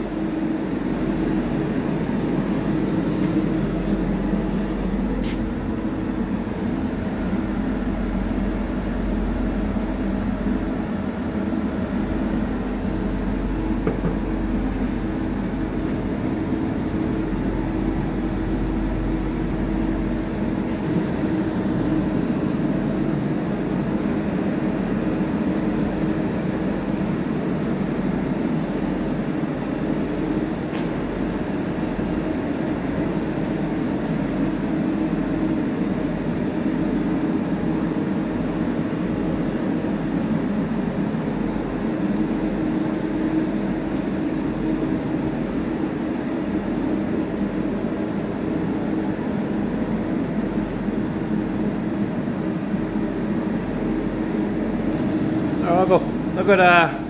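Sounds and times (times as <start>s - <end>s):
ventilation fan humming: 0.0s - 57.0s.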